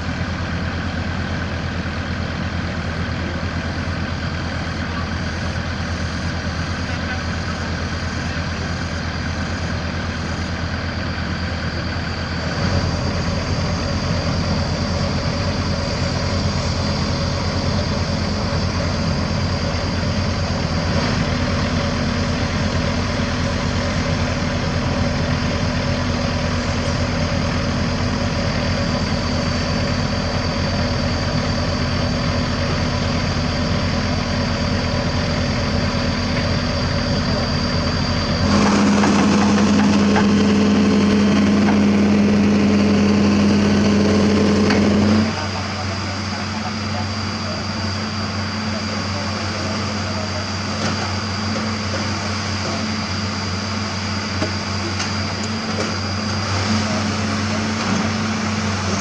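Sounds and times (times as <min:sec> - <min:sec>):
heavy diesel machine engine: 0:00.0 - 0:59.0
high whine: 0:04.3 - 0:59.0.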